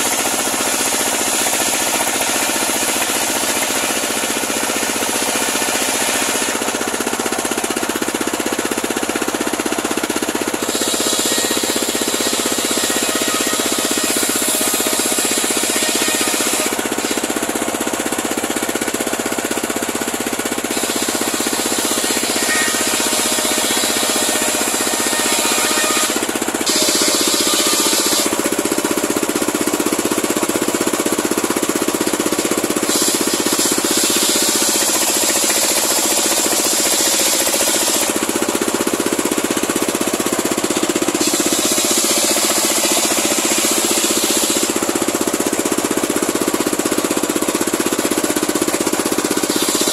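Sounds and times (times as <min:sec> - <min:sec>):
circular sawmill cutting log: 0:00.0 - 0:49.9.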